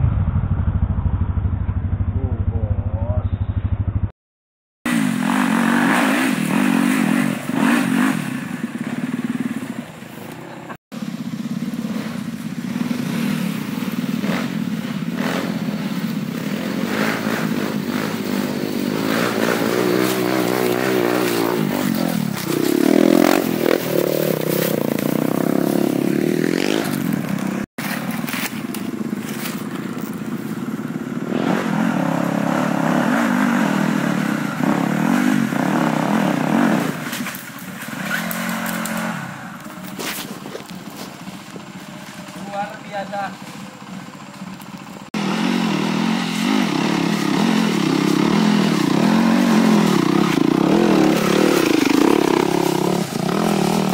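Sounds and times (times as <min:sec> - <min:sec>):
motorcycle engines revving: 0:04.9 - 0:53.9.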